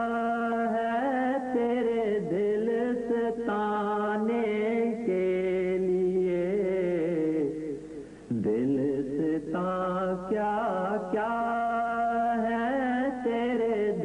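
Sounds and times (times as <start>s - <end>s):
person singing devotional song: 0.0s - 14.0s.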